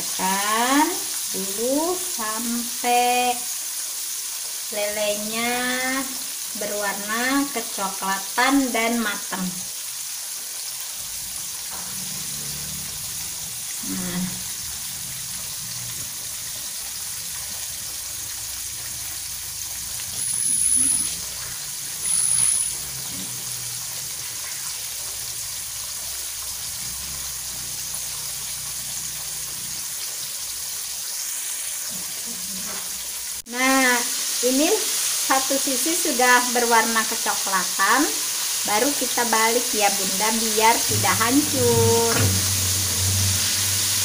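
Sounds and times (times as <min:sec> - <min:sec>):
fish frying in hot oil: 0:00.0 - 0:44.0
high-pitched sizzle bursts: 0:00.0 - 0:44.0.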